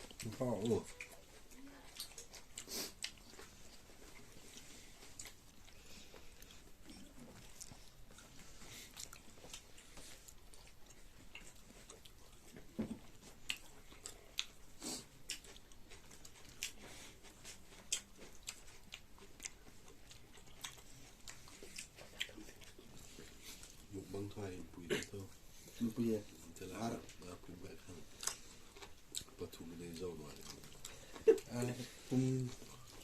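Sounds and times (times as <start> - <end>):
chewing and biting crunches: 0.0 - 33.0.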